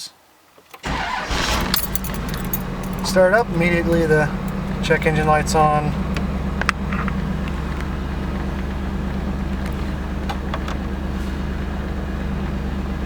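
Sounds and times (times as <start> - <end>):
car engine idling: 0.8 - 13.0.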